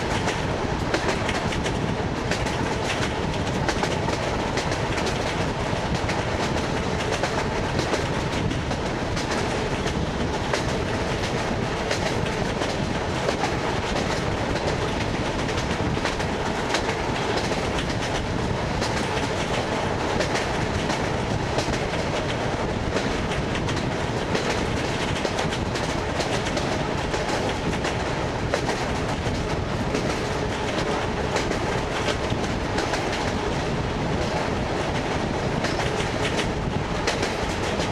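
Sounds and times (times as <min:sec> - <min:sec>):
train rumble: 0:00.0 - 0:37.9
train wheels clattering over rail joints: 0:00.0 - 0:37.9.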